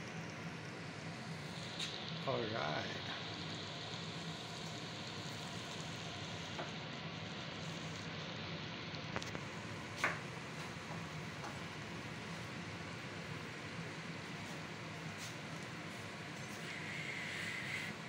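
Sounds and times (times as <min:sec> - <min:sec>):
stew simmering with sizzling hiss: 0:00.0 - 0:18.0.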